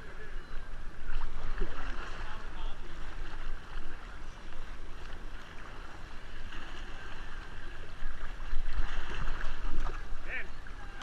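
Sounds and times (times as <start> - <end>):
water splashing around kayaks: 0.0 - 11.0.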